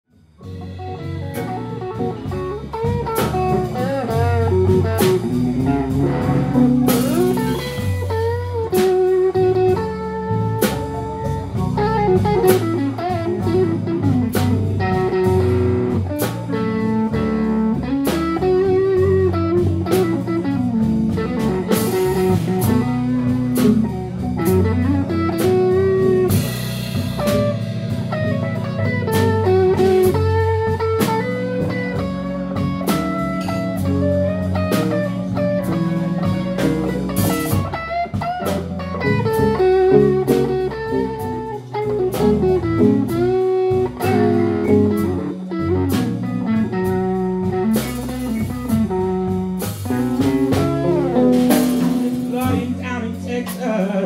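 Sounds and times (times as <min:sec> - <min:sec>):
drum kit: 0:00.1 - 0:54.0
electric bass: 0:00.1 - 0:54.0
electric guitar lead lines: 0:00.4 - 0:54.0.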